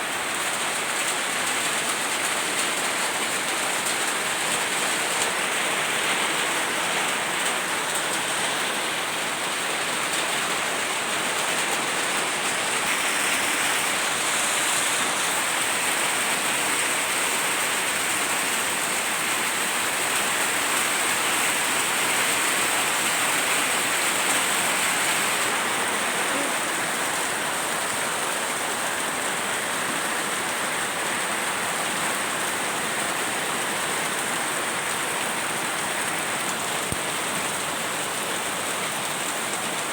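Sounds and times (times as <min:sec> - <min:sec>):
heavy rain splashing: 0:00.0 - 0:39.9.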